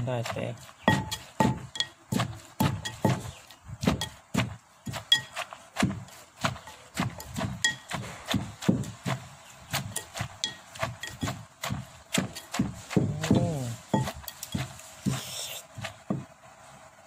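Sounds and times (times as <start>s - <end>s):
pestle pounding in mortar: 0.0s - 16.4s.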